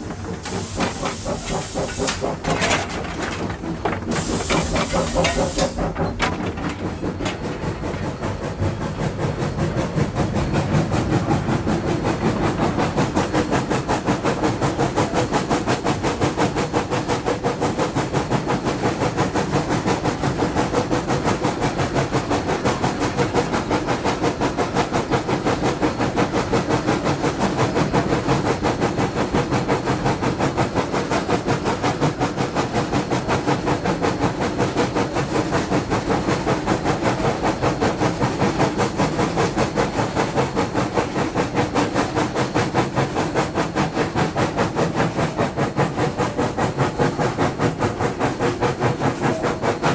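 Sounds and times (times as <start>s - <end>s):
steam hissing: 0.0s - 49.9s
steam locomotive chuffing: 0.0s - 49.9s.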